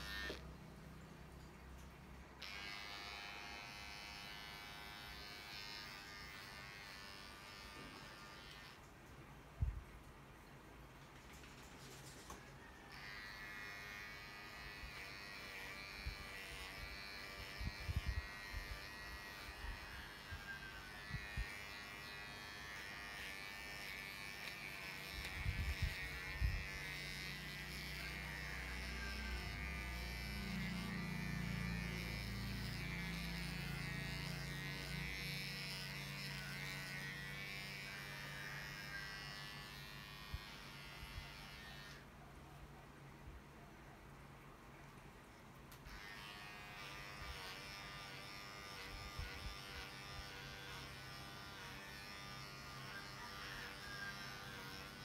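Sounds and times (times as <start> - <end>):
electric clippers buzzing: 0.0 - 0.5, 2.4 - 8.9, 12.9 - 42.0, 45.7 - 55.0.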